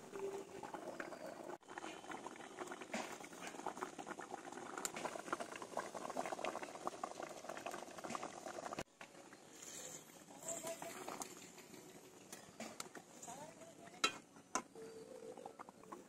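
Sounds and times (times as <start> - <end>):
curry boiling with bubbling: 0.0 - 16.0.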